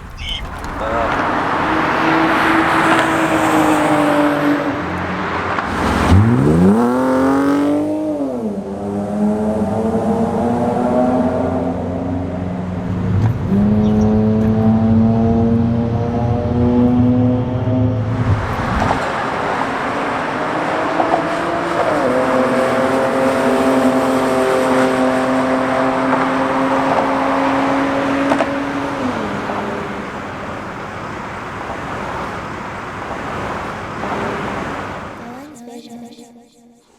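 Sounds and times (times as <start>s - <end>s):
car exhaust at steady revs: 0.0s - 35.2s
road noise: 0.0s - 35.6s.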